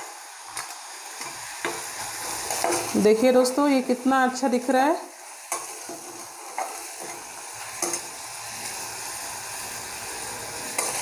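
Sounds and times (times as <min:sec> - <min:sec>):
corn sizzling in butter: 0:00.0 - 0:11.0.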